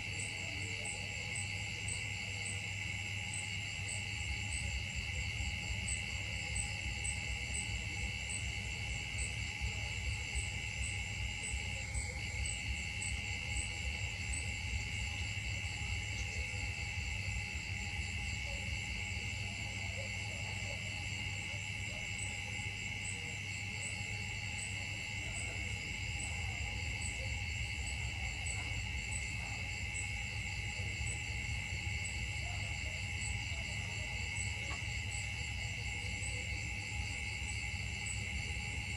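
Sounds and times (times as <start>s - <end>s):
insect chirping: 0.0s - 38.9s
insects droning: 0.0s - 38.9s.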